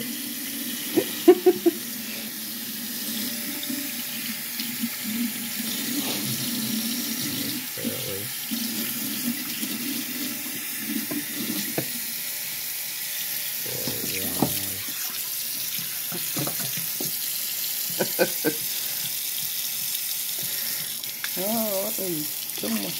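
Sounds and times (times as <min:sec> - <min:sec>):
faucet water running into sink: 0:00.0 - 0:22.9.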